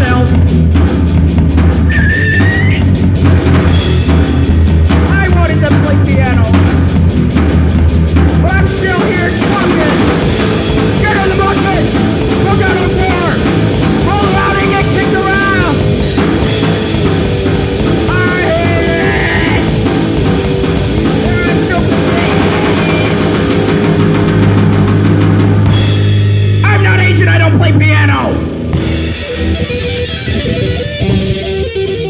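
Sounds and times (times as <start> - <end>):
distorted guitars: 0.0 - 32.0
drum kit: 0.0 - 32.0.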